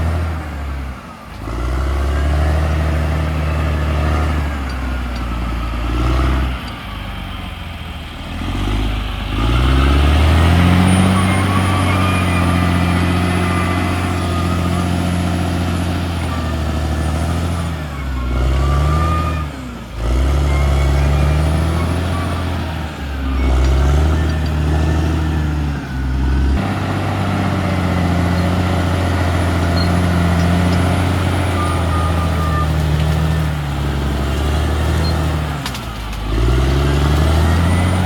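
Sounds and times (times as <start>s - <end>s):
bulldozer diesel engine revving: 0.0s - 38.0s.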